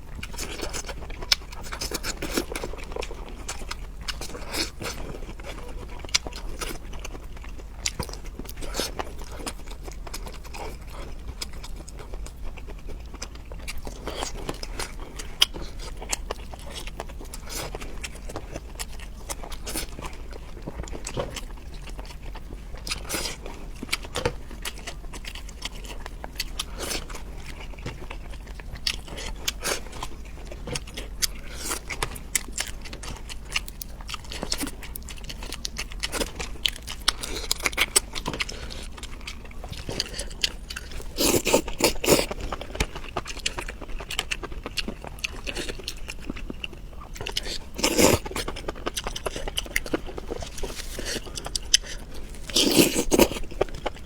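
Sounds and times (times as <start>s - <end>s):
wet chewing and crunching: 0.0s - 54.0s.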